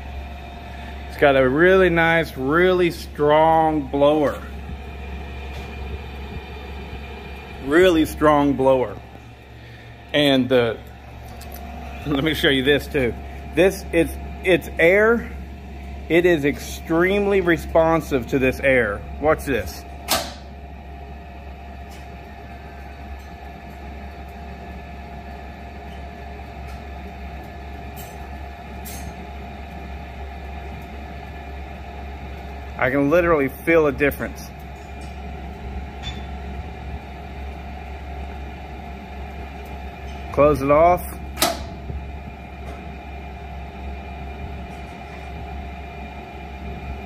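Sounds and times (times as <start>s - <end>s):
faint constant whine: 0.0s - 47.0s
stove blower fan humming: 0.0s - 47.0s.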